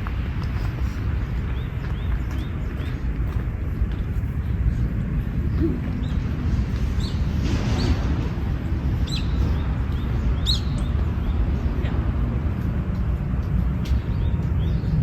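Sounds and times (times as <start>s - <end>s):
wind buffeting microphone: 0.0s - 15.0s
small birds chirping: 0.3s - 15.0s.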